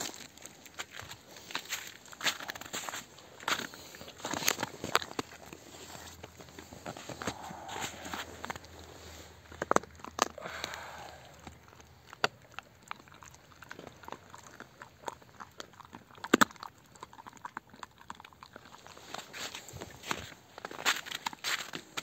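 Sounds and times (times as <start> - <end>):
dog chewing bone: 0.0 - 10.4, 11.3 - 22.0.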